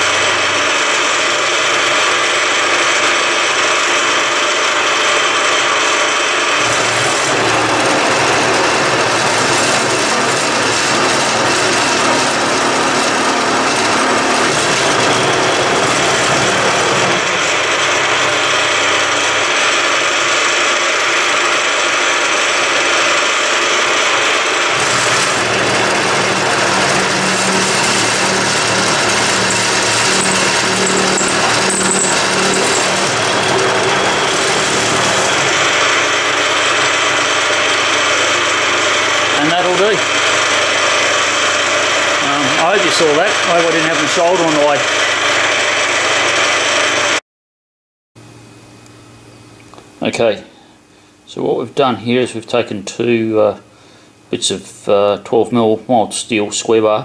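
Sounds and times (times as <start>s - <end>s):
milling machine cutting steel: 0.0s - 47.2s.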